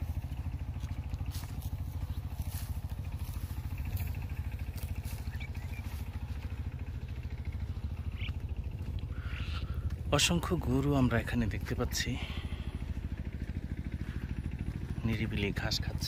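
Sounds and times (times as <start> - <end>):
small engine throbbing: 0.0 - 16.0.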